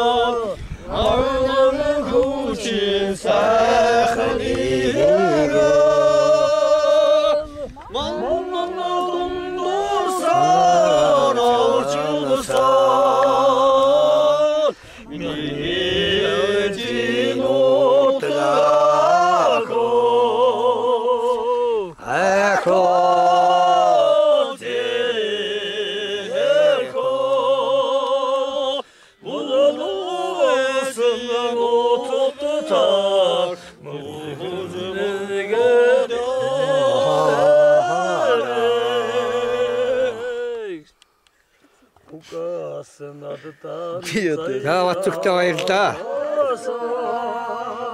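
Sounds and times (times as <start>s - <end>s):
unaccompanied singing: 0.0s - 41.0s, 41.6s - 47.9s.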